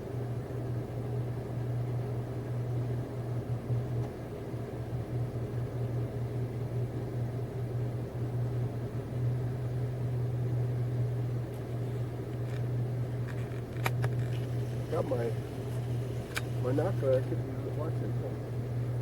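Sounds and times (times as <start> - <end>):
car engine idling: 1.6 - 19.0.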